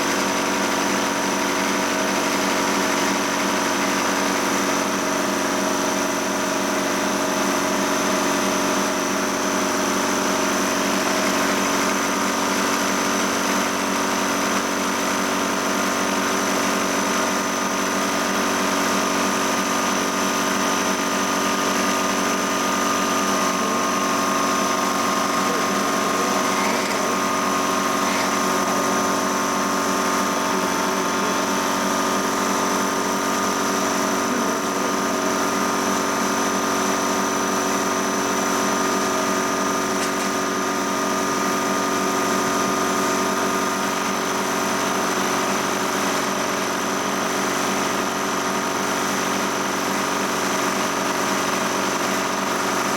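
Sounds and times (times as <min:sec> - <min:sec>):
steady machine hum: 0:00.0 - 0:52.9.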